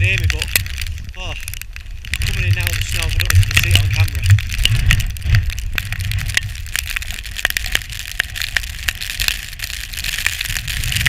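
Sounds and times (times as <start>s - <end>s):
sharp crunches and ticks: 0.0s - 11.0s
wind buffeting microphone: 0.0s - 11.0s.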